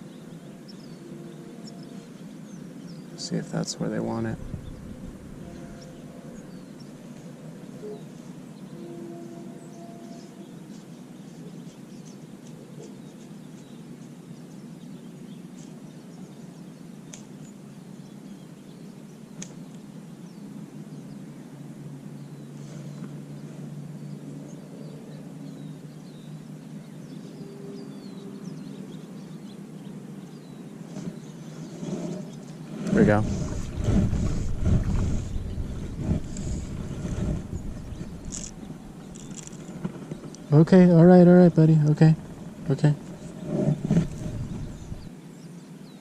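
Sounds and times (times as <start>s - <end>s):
small birds chirping: 0.0s - 8.8s, 9.5s - 21.4s, 22.1s - 46.0s
low outdoor background noise: 0.0s - 46.0s.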